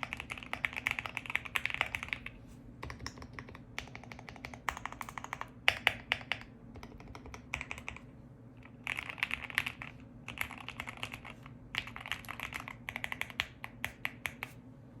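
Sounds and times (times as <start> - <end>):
mechanical keyboard typing: 0.0 - 8.0, 8.8 - 14.5.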